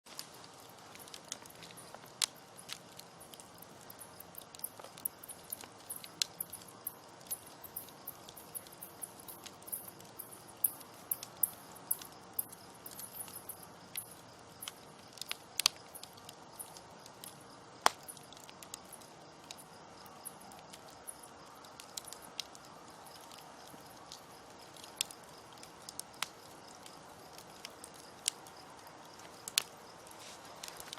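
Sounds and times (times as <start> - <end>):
campfire crackling and popping: 0.1 - 30.9.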